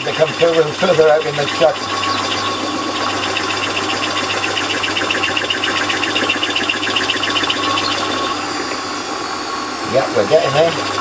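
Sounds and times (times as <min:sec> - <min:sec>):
lathe cutter chattering on metal: 0:00.0 - 0:11.0
lathe motor humming: 0:00.0 - 0:11.0.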